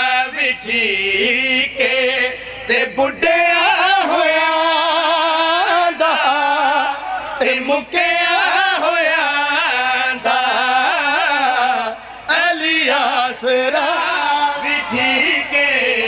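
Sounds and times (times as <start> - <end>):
men singing into microphones: 0.0 - 16.0.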